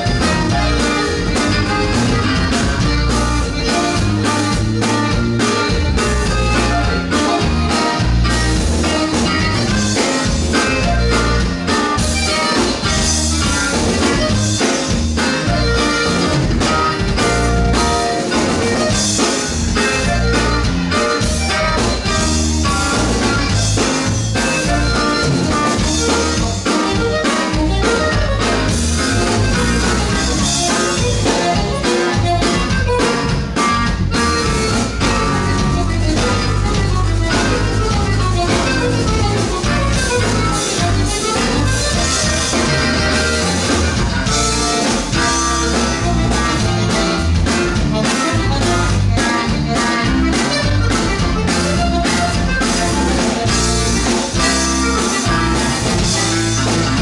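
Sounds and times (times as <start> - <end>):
drum kit beat: 0.0 - 57.0
electric and acoustic guitars: 0.0 - 57.0.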